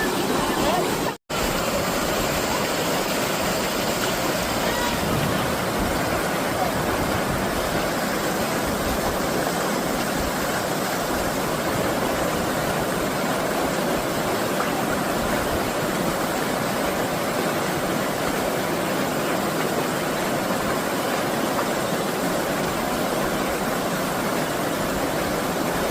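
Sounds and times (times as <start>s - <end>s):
stream rushing over rocks: 0.0s - 25.9s.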